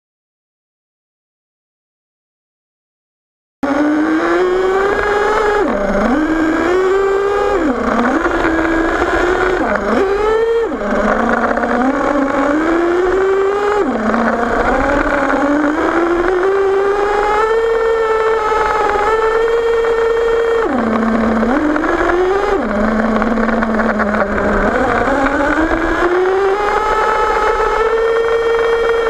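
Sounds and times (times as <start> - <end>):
nitro engine high-pitched whine: 3.6 - 29.0.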